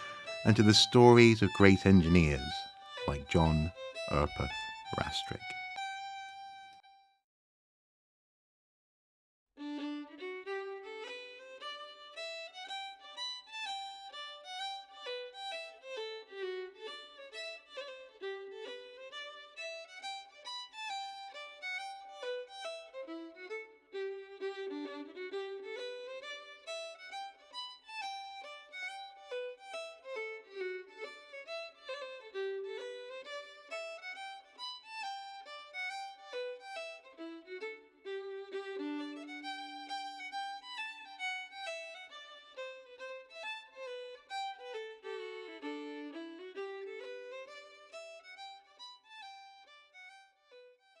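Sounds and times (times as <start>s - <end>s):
solo violin melody: 0.0s - 7.1s, 9.6s - 51.0s.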